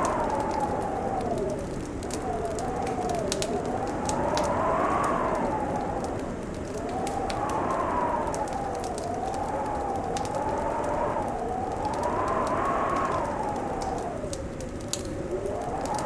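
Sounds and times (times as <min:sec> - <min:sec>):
howling wind: 0:00.0 - 0:16.0
wood fire crackling and popping: 0:00.0 - 0:16.0.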